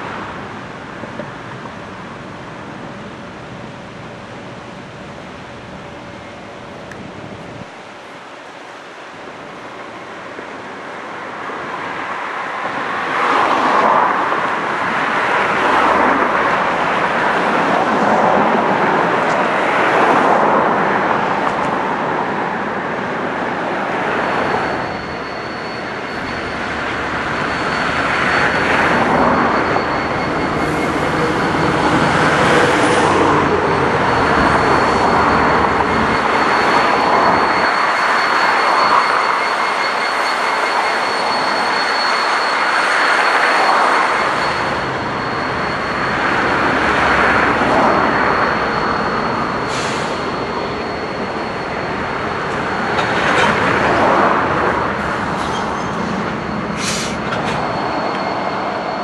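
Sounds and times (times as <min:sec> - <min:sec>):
train wheels rumbling and clattering: 0:00.0 - 0:06.0, 0:09.4 - 0:59.0
diesel locomotive engines running: 0:00.0 - 0:59.0
thin high whine: 0:00.0 - 0:59.0.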